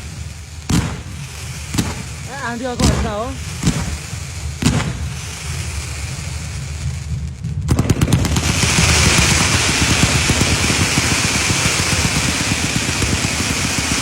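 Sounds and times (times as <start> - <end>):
firecrackers cracking: 0.0 - 14.0
firework bang: 0.0 - 14.0
fireworks hiss and rumble: 0.0 - 14.0.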